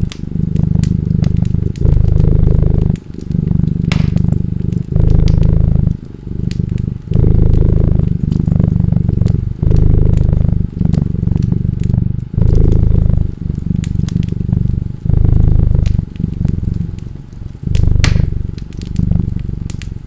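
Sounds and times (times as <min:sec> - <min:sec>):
cat purring: 0:00.0 - 0:20.0
wood fire crackling and popping: 0:00.0 - 0:20.0.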